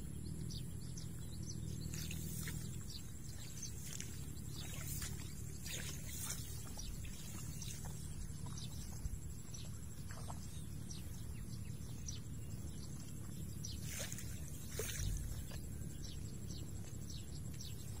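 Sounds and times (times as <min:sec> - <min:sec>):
faint chirps: 0:00.0 - 0:18.0
wind rumble on microphone: 0:00.0 - 0:18.0
grass rustling: 0:01.6 - 0:11.6, 0:12.6 - 0:18.0.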